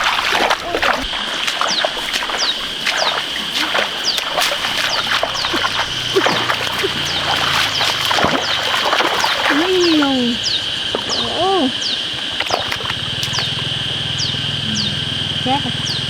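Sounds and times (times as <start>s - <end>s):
splashing in muddy water: 0.0s - 16.0s.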